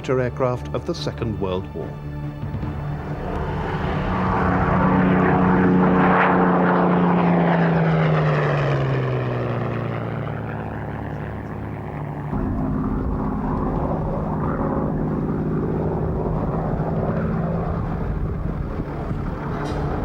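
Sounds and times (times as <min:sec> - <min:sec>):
propeller plane flying past: 0:00.0 - 0:20.0.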